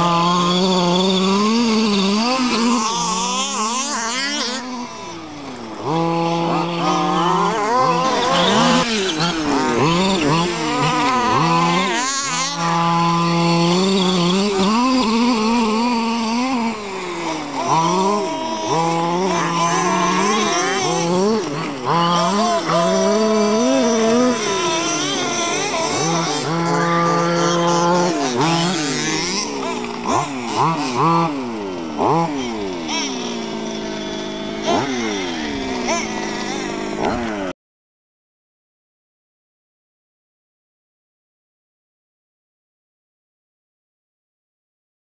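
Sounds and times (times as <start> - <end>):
rc car engine revving: 0.0 - 37.6.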